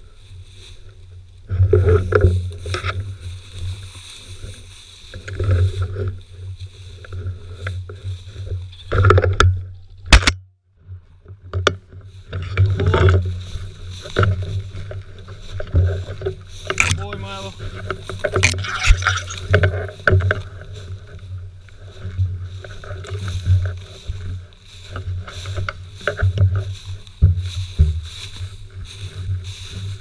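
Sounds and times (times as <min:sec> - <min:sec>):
grass swishing against walker: 0:00.0 - 0:09.4, 0:11.9 - 0:30.0.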